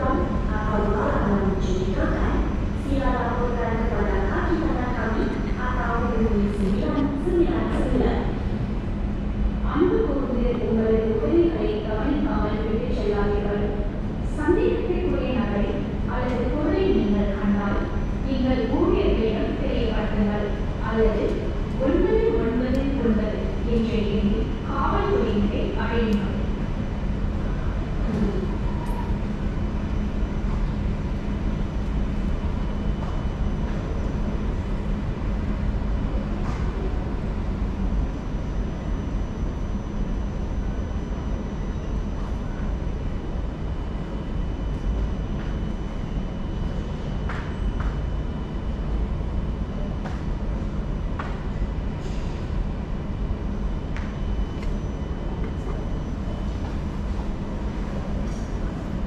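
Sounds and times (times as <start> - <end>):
steady hum: 0.0 - 59.0
train low rumble: 0.0 - 59.0.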